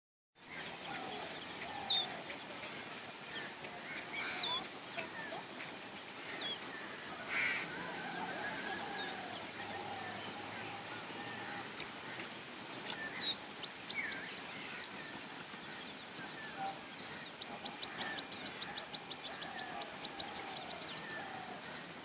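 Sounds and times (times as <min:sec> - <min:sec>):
steady high hiss: 0:00.4 - 0:22.0
wild birds calling: 0:00.4 - 0:22.0.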